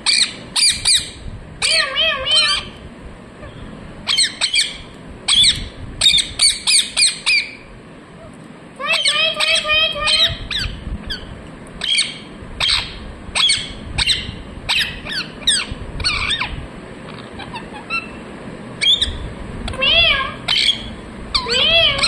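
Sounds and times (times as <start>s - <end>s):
parrot chirping and squawking: 0.0s - 2.8s, 3.4s - 22.0s.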